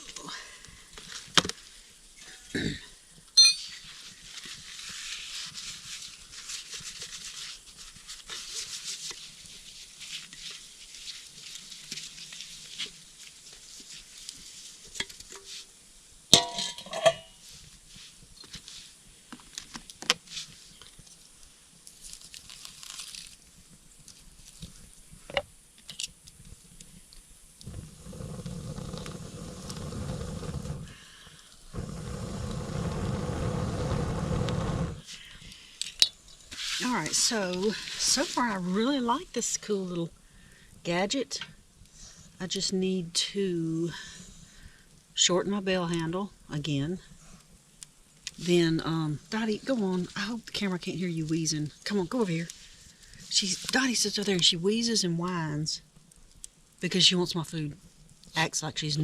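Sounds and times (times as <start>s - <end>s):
campfire crackling and hissing: 0.0s - 59.0s
fire popping: 0.0s - 59.0s.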